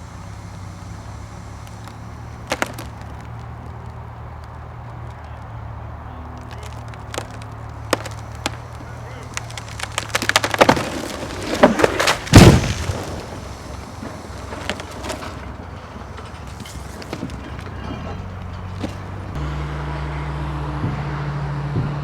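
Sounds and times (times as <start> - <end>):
tree falling with heavy crash: 0.0 - 19.4
wood cracking and splintering: 0.0 - 19.4.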